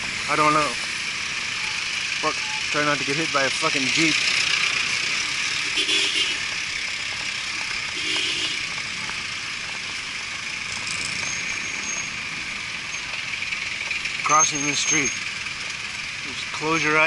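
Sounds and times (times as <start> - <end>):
road noise hiss: 0.0 - 17.0
vehicles driving past: 0.0 - 17.0.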